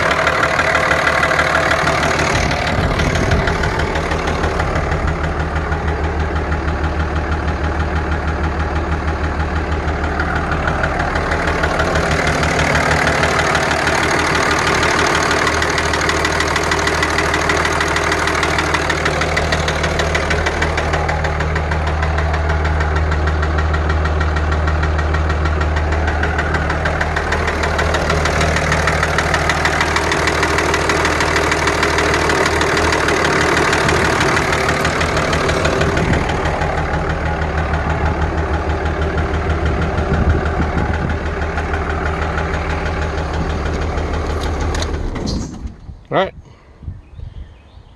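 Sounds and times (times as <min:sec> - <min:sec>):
diesel engine idling with knock: 0:00.0 - 0:46.7.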